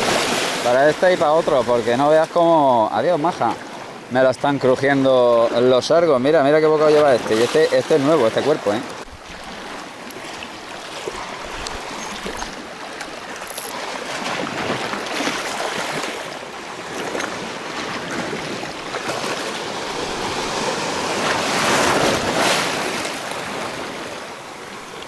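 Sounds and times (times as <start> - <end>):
waves washing over rocks: 0.0 - 25.0.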